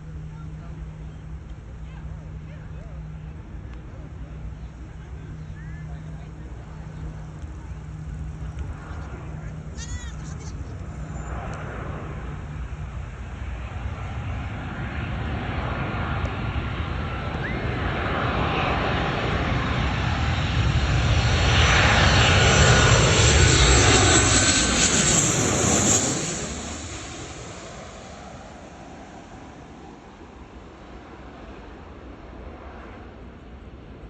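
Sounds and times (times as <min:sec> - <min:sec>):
jet engines rumble and whine: 0:00.0 - 0:34.0.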